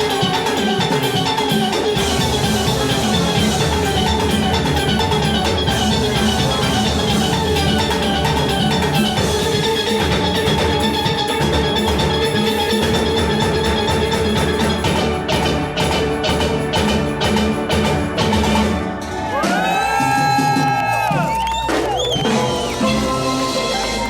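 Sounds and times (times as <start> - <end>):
drum kit and percussion: 0.0 - 24.0.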